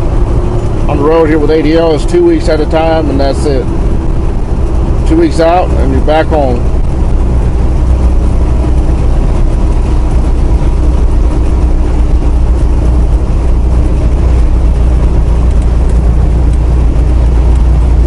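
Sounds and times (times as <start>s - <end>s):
road noise: 0.0s - 18.0s
truck diesel engine rumble: 0.0s - 18.0s.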